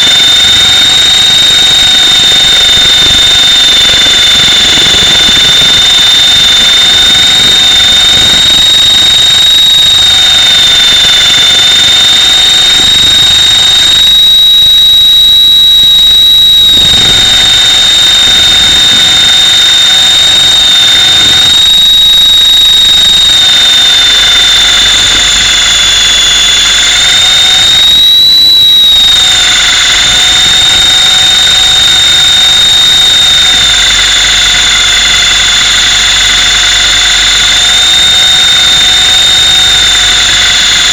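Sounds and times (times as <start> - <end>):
rc helicopter motor whining: 0.0 - 40.9.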